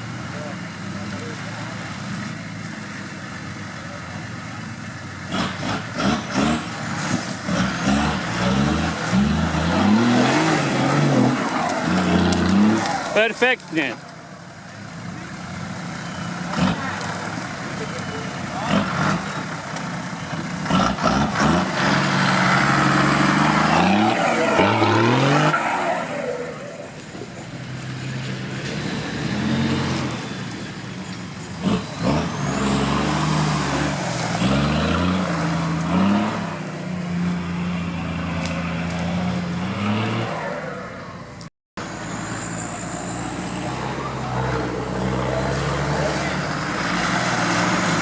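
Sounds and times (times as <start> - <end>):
off-road vehicle engine revving: 0.0 - 14.1, 14.7 - 48.0.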